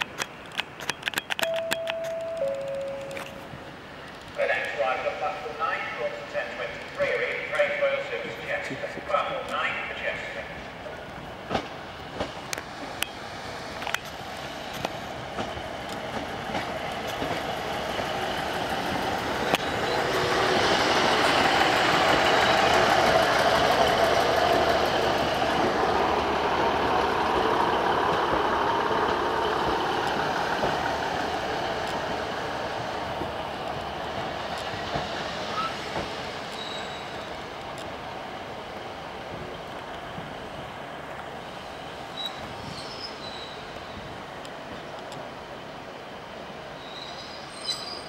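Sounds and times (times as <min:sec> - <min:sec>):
diesel train passing: 0:00.0 - 0:48.0
rail joint clicks: 0:00.0 - 0:48.0.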